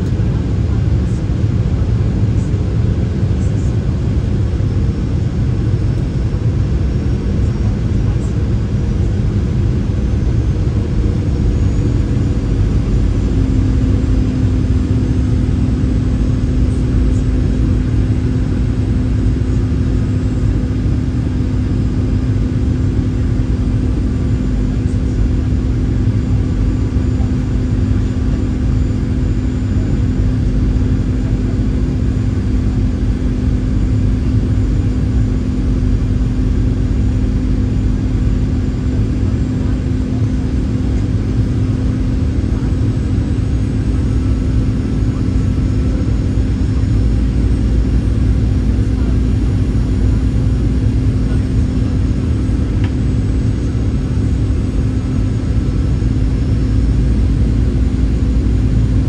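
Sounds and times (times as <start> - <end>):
jet engine cabin hum: 0.0 - 59.0.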